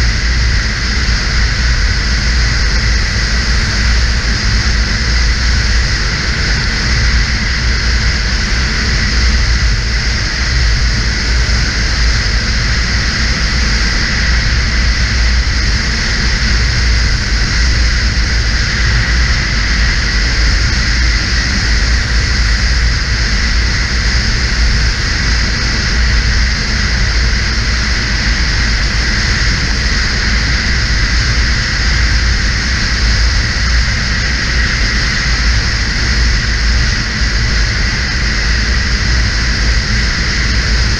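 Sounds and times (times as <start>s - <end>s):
snowmobile engine rumble: 0.0s - 40.9s
wind noise: 0.0s - 40.9s.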